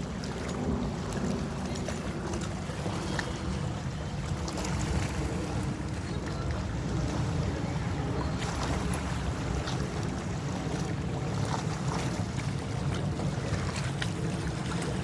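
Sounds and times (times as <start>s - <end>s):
light water splashes: 0.0s - 15.0s
water noise: 0.0s - 15.0s.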